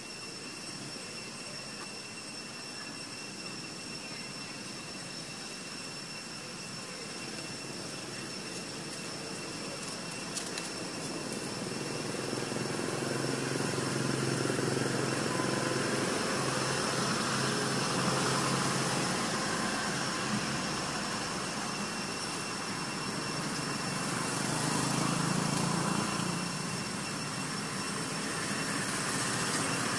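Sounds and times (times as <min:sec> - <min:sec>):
high-pitched whine and hiss: 0:00.0 - 0:29.9
distant engine hum: 0:03.8 - 0:29.9.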